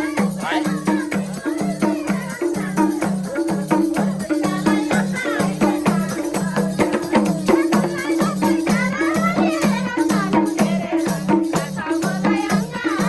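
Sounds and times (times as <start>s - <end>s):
hand drum quick rhythm: 0.0s - 13.0s
jingling percussion: 0.0s - 13.0s.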